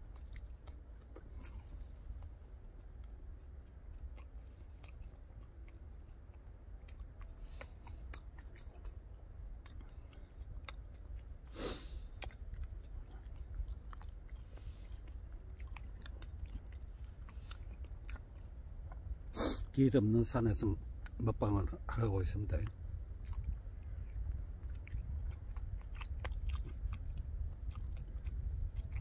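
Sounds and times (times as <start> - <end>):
man chewing food: 0.0 - 29.0.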